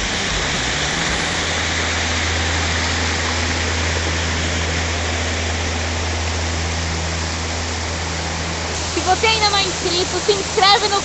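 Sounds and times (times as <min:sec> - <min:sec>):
low rumble: 0:00.0 - 0:11.0
water rushing over rocks: 0:00.0 - 0:11.0.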